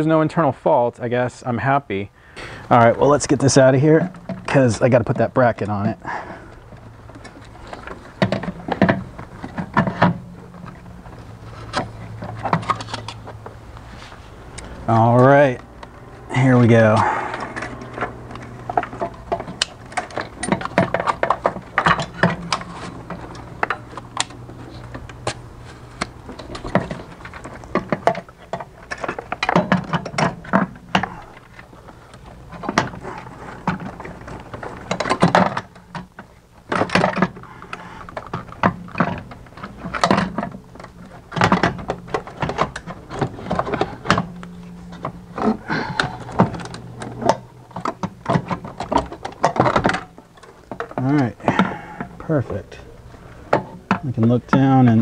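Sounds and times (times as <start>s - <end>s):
steady low hum: 0.0s - 55.0s
metal parts knocking and clunking: 2.8s - 13.7s, 14.4s - 55.0s.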